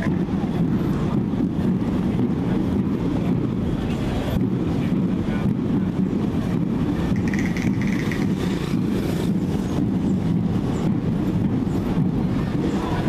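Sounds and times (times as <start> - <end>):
street noise: 0.0 - 13.0
wind buffeting microphone: 0.0 - 13.0.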